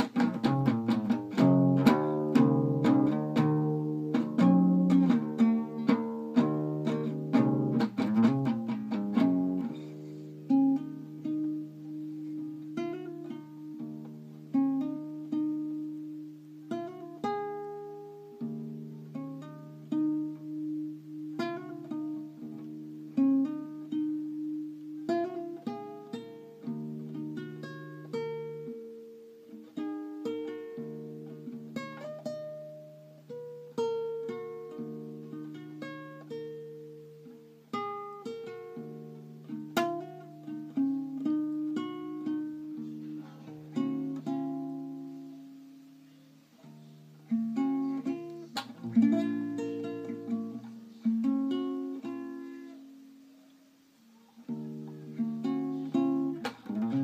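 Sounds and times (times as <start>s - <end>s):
fingerstyle nylon-string guitar: 0.0s - 57.0s.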